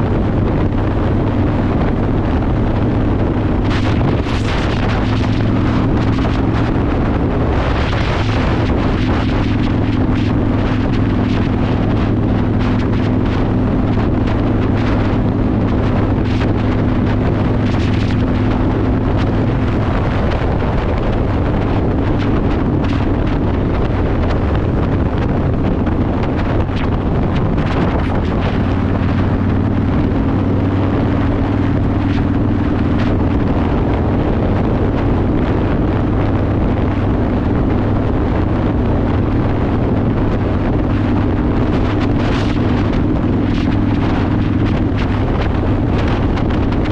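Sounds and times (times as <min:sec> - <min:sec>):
motorcycle engine cruising: 0:00.0 - 0:46.9
wind buffeting microphone: 0:00.0 - 0:46.9.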